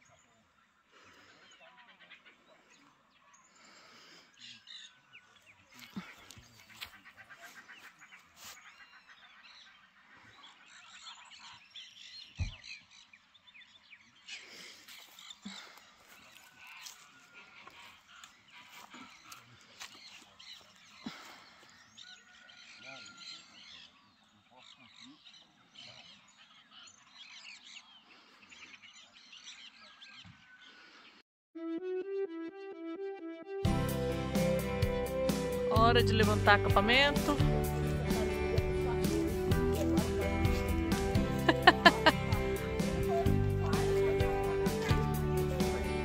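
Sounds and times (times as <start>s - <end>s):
birds chirping: 0.0s - 31.2s, 34.1s - 46.0s.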